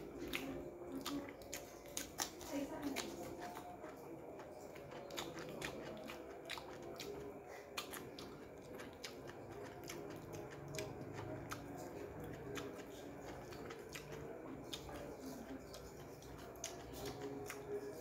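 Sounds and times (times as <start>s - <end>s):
chewing crisp cucumber: 0.0s - 18.0s.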